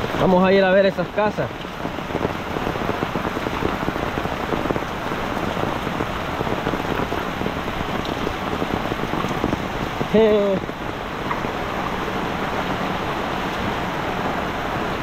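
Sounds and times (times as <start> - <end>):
heavy rain on ground and puddles: 0.0 - 15.0.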